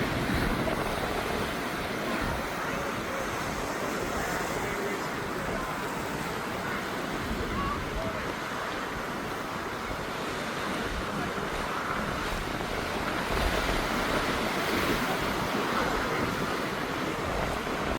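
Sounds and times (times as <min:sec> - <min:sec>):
ocean surf rushing: 0:00.0 - 0:17.9
wind buffeting microphone: 0:00.0 - 0:17.9.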